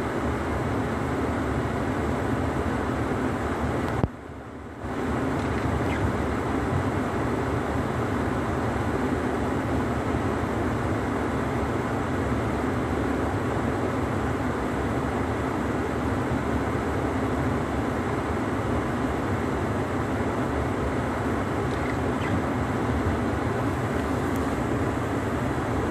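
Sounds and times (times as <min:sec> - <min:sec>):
road noise on snow: 0:00.0 - 0:25.9.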